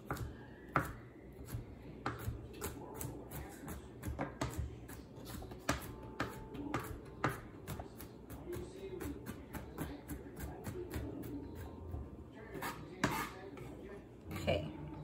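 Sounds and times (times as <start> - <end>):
knife chopping on cutting board: 0.0 - 11.3, 12.6 - 13.4.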